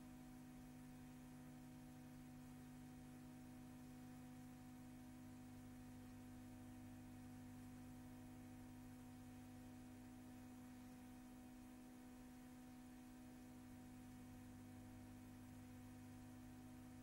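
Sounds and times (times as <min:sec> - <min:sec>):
faint low hum and hiss: 0:00.0 - 0:17.0.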